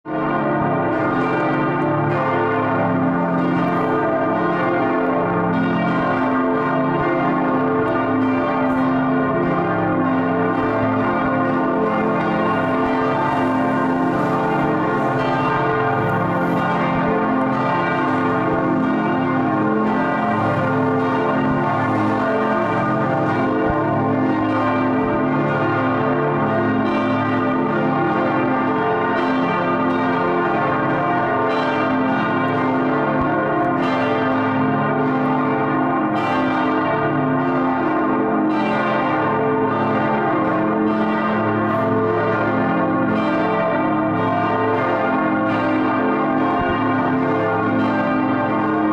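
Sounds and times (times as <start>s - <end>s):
church bells ringing: 0.1s - 48.9s.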